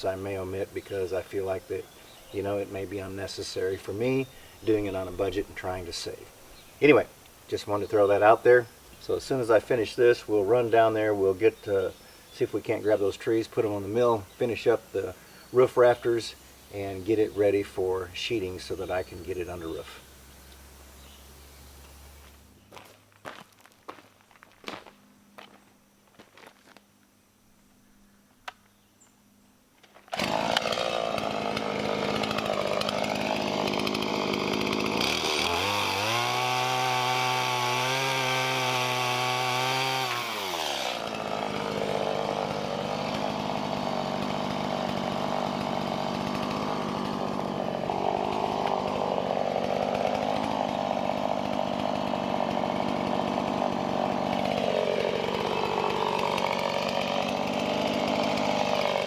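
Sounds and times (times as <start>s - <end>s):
chainsaw engine running: 0.0s - 22.6s, 30.0s - 59.0s.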